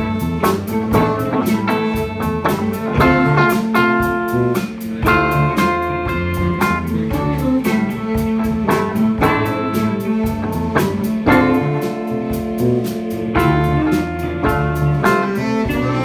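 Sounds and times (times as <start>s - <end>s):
baritone saxophone sustained notes: 0.0s - 16.0s
drum kit beat: 0.0s - 16.0s
guitar: 0.0s - 16.0s.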